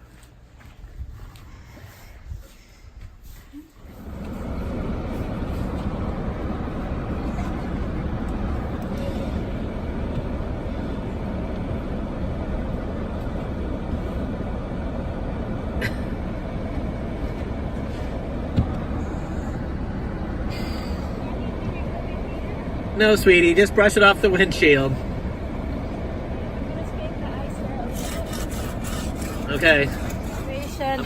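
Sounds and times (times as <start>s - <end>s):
car interior rumble: 0.0s - 31.0s.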